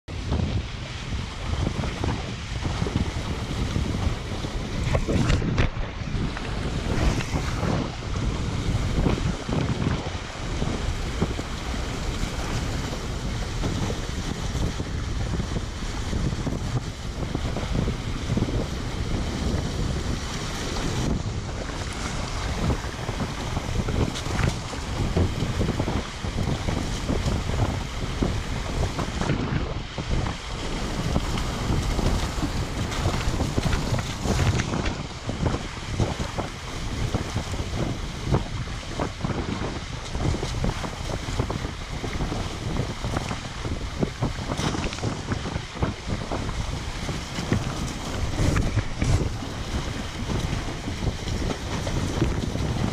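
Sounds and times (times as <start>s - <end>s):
water rushing along a hull: 0.0s - 52.9s
wind buffeting microphone: 0.0s - 52.9s.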